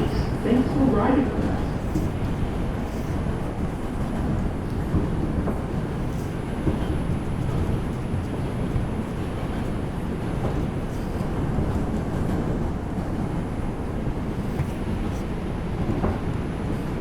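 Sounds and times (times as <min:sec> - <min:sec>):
subway wheels rumbling on rail: 0:00.0 - 0:17.0.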